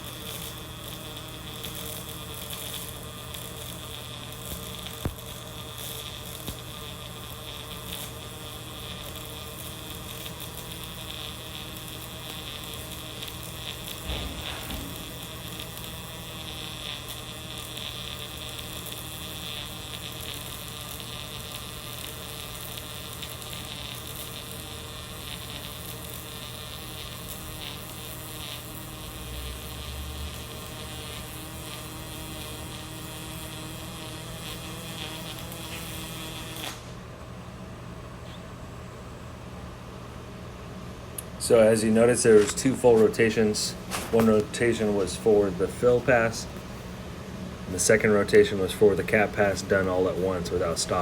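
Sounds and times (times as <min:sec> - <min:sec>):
electrical hum: 0:00.0 - 0:51.0
welding arc buzzing: 0:00.0 - 0:51.0.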